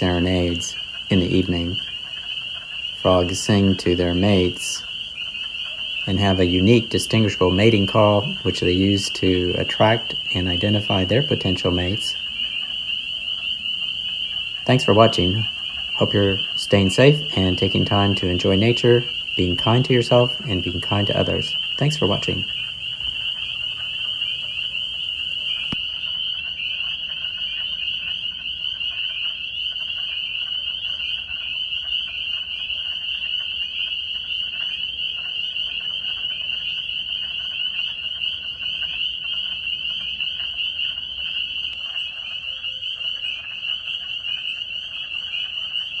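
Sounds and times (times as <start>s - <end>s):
frogs trilling: 0.0s - 46.0s.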